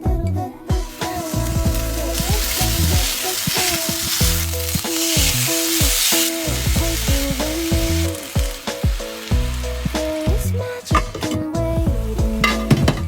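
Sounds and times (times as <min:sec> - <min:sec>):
background music with bass line: 0:00.0 - 0:13.0
food sizzling in a pan: 0:00.6 - 0:13.0.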